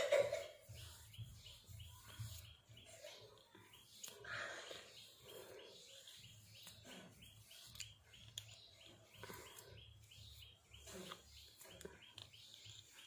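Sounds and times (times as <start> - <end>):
faint rapid bird chirping: 0.0 - 13.0.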